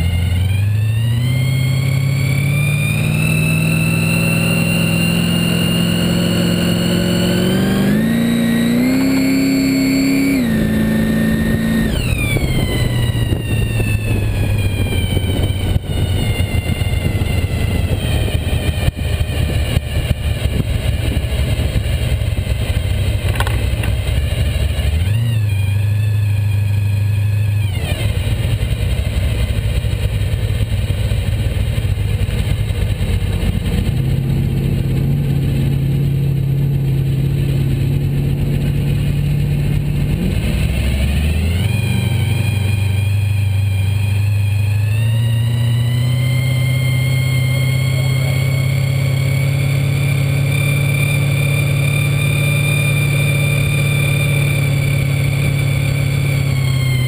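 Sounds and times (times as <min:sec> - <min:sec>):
hot rod engine running: 0:00.0 - 0:57.0.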